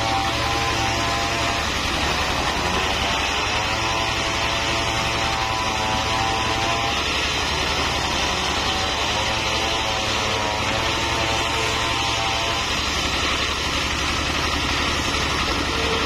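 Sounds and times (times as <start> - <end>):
diesel engine running: 0.0 - 9.1, 10.2 - 16.0
saw blade whining through log: 0.0 - 16.0.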